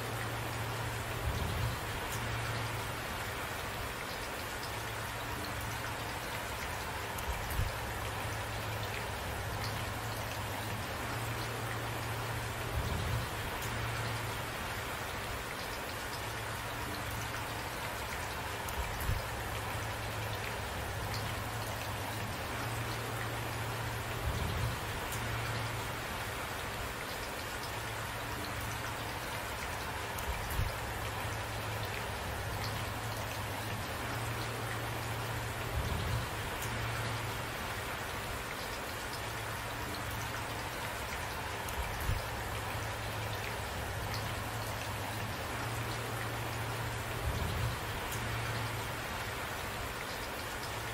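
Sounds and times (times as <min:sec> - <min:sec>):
rain pattering on surfaces: 0:00.0 - 0:50.9.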